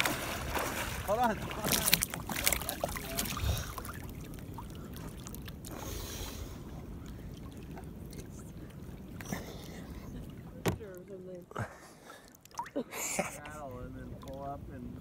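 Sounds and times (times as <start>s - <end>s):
small waves lapping against hull: 0.0s - 15.0s.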